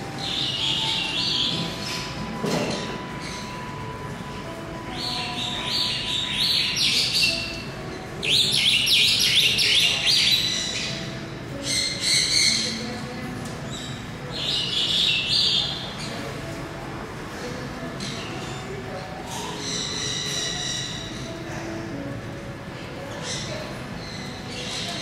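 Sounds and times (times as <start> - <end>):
birds chirping: 0.0 - 16.5, 18.0 - 22.2, 23.0 - 25.0.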